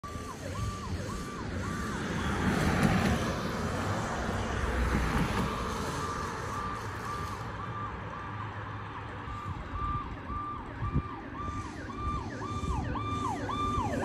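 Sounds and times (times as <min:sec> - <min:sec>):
cars passing: 0:00.0 - 0:14.0
distant emergency siren: 0:00.0 - 0:14.0.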